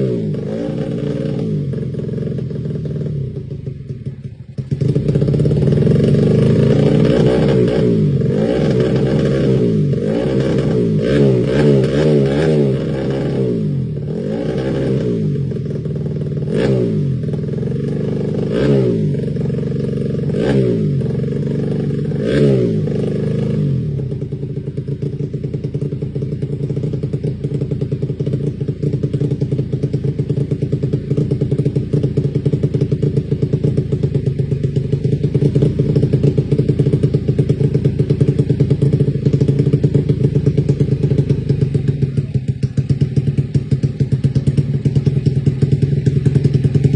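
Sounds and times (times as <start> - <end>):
scooter engine revving and idling: 0.0 - 46.9.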